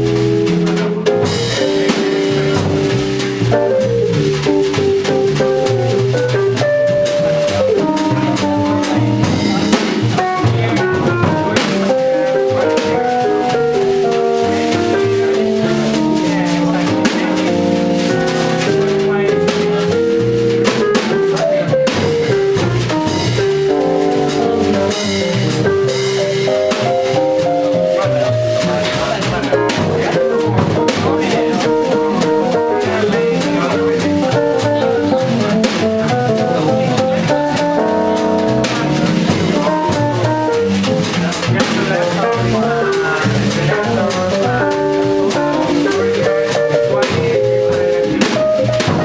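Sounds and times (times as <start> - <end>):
double bass: 0.0 - 49.0
drum kit: 0.0 - 49.0
piano soloing: 0.0 - 49.0.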